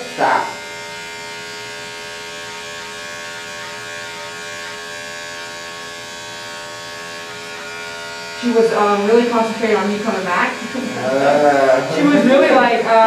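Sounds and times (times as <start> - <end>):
electric dog clipper humming: 0.0 - 13.0.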